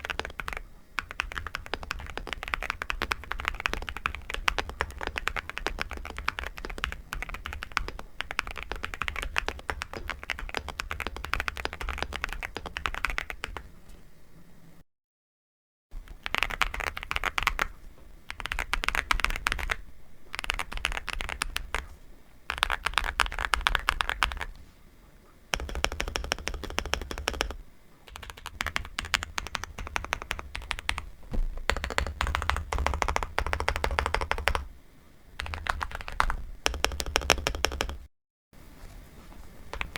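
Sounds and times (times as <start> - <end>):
mechanical keyboard typing: 0.0 - 13.7, 16.0 - 21.9, 22.5 - 24.5, 25.5 - 34.7, 35.4 - 38.1.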